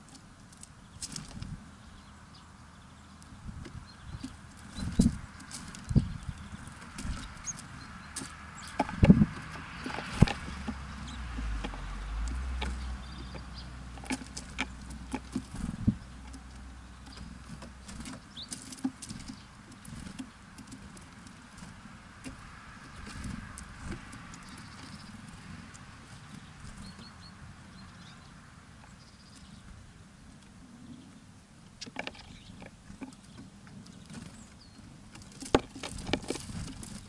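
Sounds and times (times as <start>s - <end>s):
birds pecking taps and clicks: 3.1s - 27.9s, 31.8s - 37.0s.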